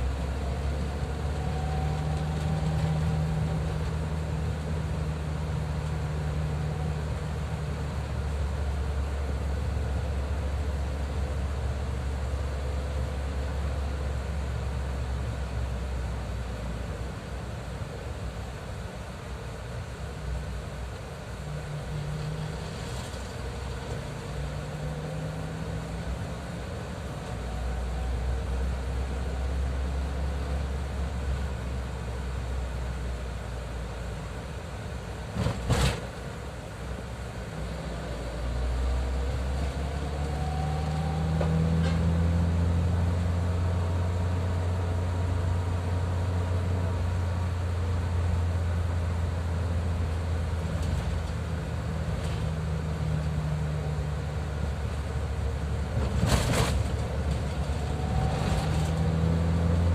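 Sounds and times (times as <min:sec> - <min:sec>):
vehicle engine and road rumble: 0:00.0 - 0:59.9.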